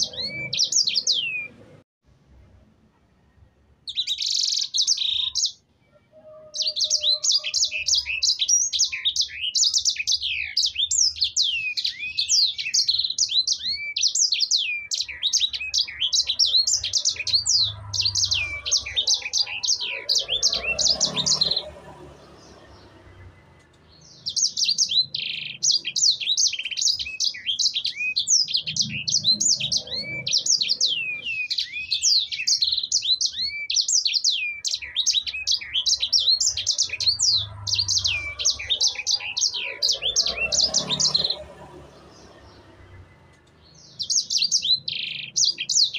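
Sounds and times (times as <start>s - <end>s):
songbird chirps and trills: 0.0s - 1.8s, 2.9s - 45.9s.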